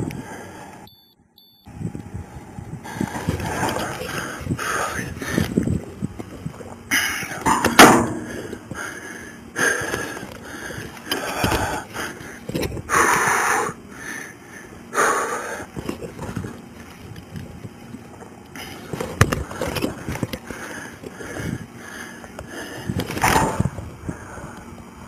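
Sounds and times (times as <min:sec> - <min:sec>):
heavy hissing breaths: 0:00.0 - 0:00.9, 0:02.8 - 0:05.9, 0:06.5 - 0:16.3, 0:18.5 - 0:25.0.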